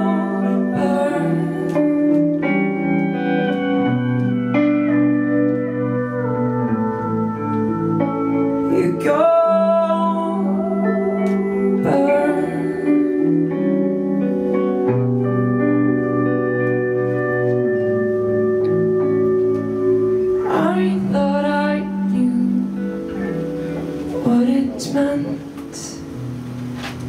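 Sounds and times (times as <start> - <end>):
guitar with gliding notes: 0.0 - 27.0
live band playing: 0.0 - 27.0.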